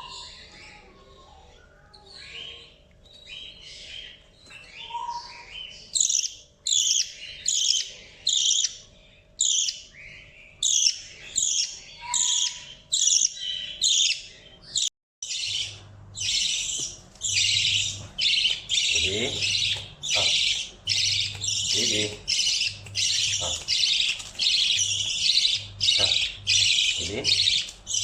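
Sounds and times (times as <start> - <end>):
budgerigar chirping: 2.2 - 28.0.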